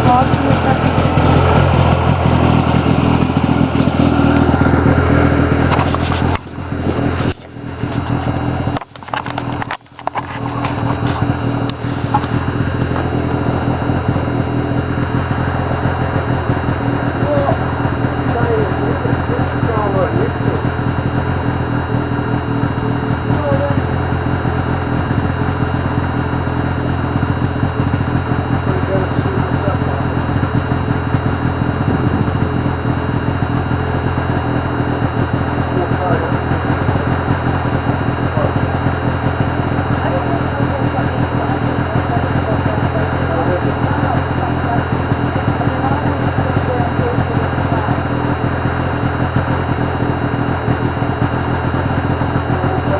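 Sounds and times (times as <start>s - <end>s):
snowmobile engine running: 0.0s - 52.9s.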